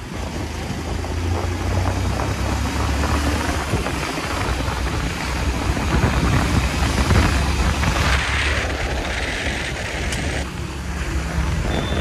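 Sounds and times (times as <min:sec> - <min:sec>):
motor vehicle running: 0:00.0 - 0:12.0
wind rushing over microphone: 0:00.0 - 0:12.0.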